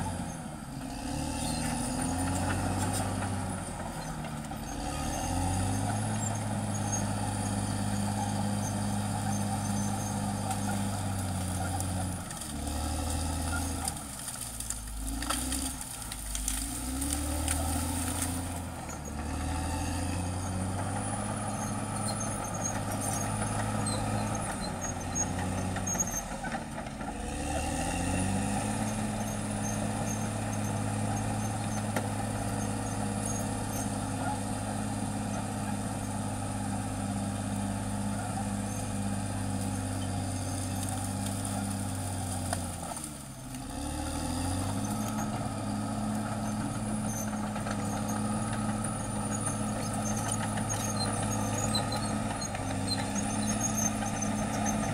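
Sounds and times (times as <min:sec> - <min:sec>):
bulldozer diesel engine working: 0:00.0 - 0:54.9.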